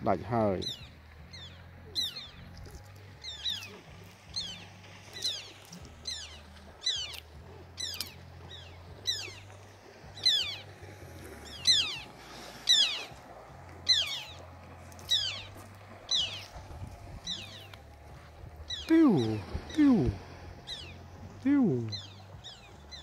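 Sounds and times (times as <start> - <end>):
bird calling: 0.4 - 23.0.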